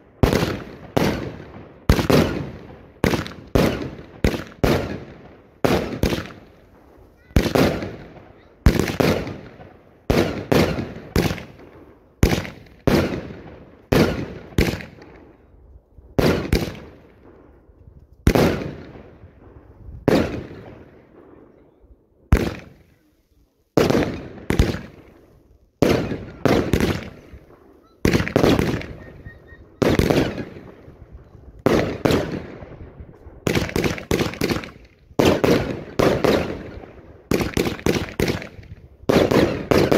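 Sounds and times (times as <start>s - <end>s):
fireworks bursting: 0.0s - 15.4s, 16.2s - 17.6s, 18.2s - 21.5s, 22.3s - 39.9s.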